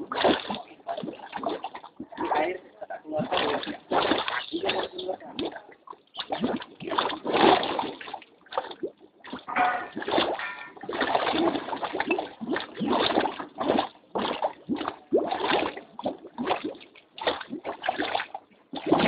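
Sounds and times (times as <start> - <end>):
mud gurgling and splashing: 0.0 - 19.0.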